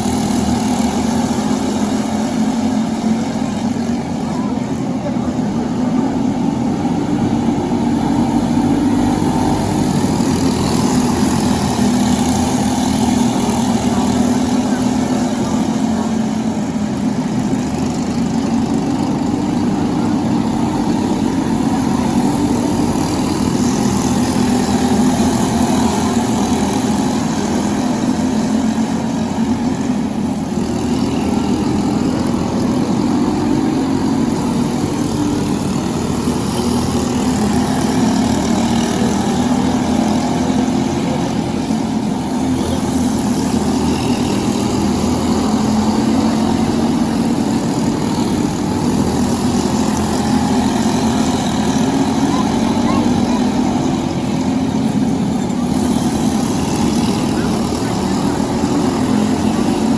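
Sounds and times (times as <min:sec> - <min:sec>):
kart engine running: 0:00.0 - 0:59.9.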